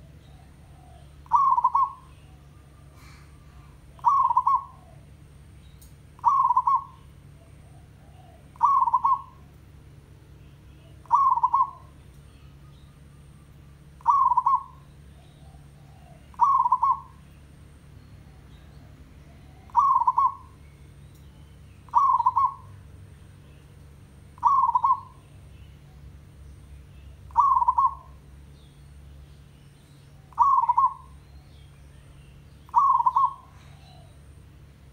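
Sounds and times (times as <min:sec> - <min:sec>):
dove cooing trills: 0:00.0 - 0:09.6, 0:10.6 - 0:20.6, 0:21.6 - 0:23.0, 0:24.0 - 0:26.4, 0:27.1 - 0:28.6, 0:30.1 - 0:34.5.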